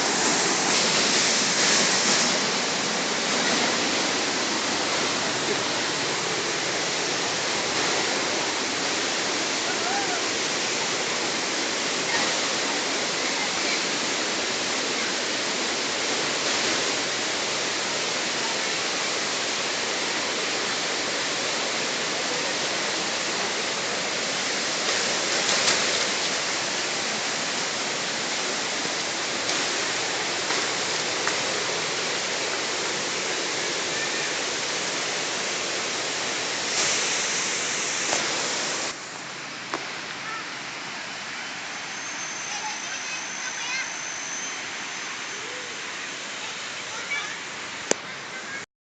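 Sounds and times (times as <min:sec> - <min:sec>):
waterfall rushing: 0:00.0 - 0:48.7.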